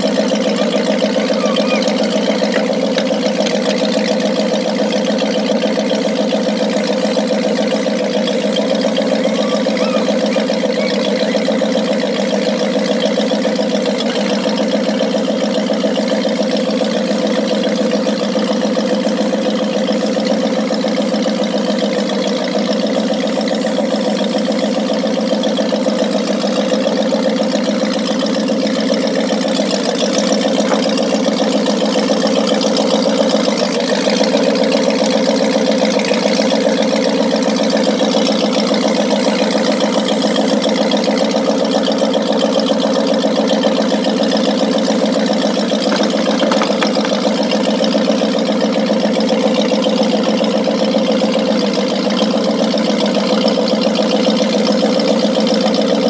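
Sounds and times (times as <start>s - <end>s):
boat engine idling: 0.0s - 56.0s.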